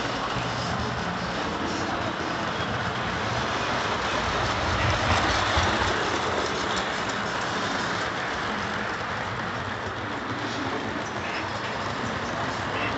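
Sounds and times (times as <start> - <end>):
model train wheels rolling on track: 0.0 - 12.9.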